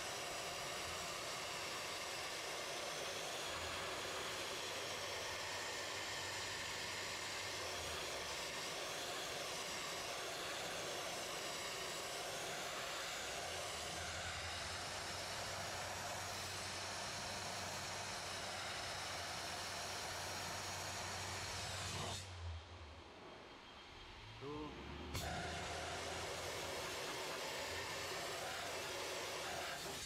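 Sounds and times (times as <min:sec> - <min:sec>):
dry ice blaster hissing: 0:00.0 - 0:22.4, 0:25.1 - 0:30.0.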